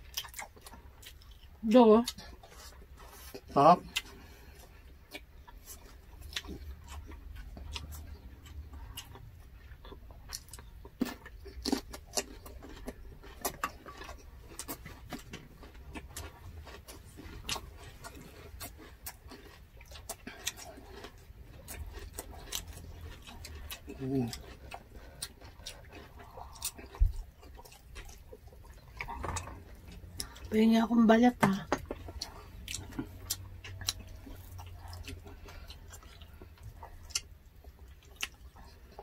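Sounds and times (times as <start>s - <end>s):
chewing and lip-smacking: 0.0s - 39.0s.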